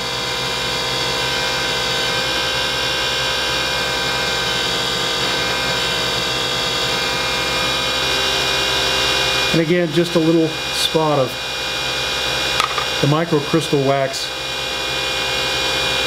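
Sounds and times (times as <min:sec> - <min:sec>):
wood lathe motor humming: 0:00.0 - 0:16.0.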